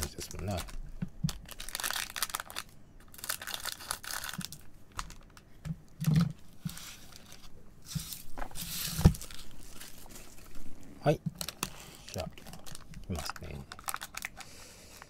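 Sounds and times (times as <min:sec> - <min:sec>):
foil wrappers crinkling: 0:00.0 - 0:10.7, 0:11.4 - 0:15.0.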